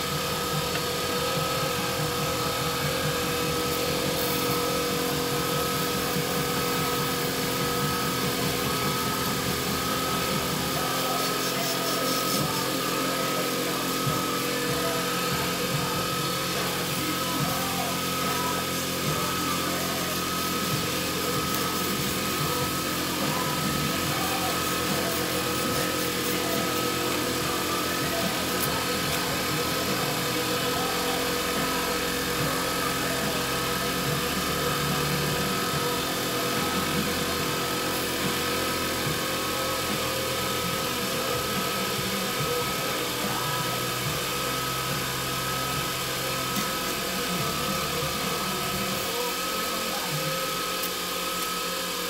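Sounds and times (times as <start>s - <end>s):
sandpaper hissing on wood: 0.0s - 52.0s
wood lathe whining: 0.0s - 52.0s.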